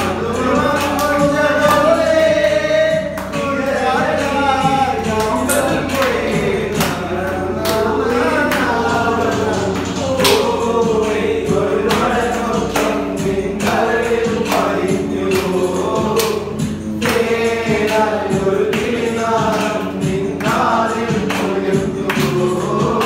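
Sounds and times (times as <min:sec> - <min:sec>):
sharp percussive beat: 0:00.0 - 0:23.0
voices singing together: 0:00.0 - 0:23.0.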